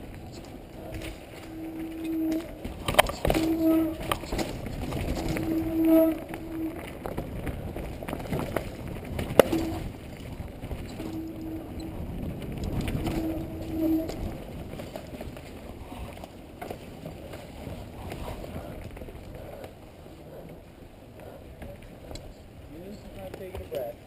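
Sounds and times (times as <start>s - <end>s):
wind on microphone: 0.0s - 22.7s
steady hum: 0.0s - 23.1s
bike rattling over bumps: 0.0s - 24.0s
bike tyres on dirt: 0.0s - 24.0s.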